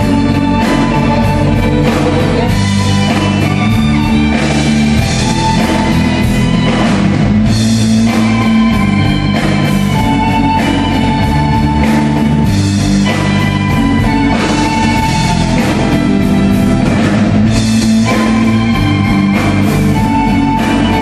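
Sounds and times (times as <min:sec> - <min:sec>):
drums: 0:00.0 - 0:21.0
guitar: 0:00.0 - 0:21.0
violin melody: 0:00.0 - 0:21.0.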